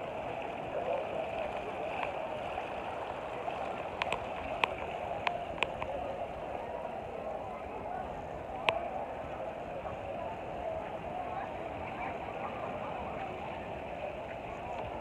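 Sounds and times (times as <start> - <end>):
rushing gurgling outdoor noise: 0.0 - 15.0.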